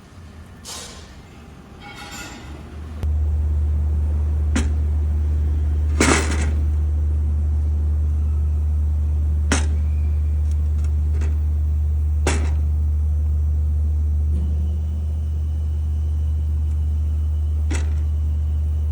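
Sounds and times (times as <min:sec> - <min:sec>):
laser welding machine humming: 0:03.0 - 0:18.9.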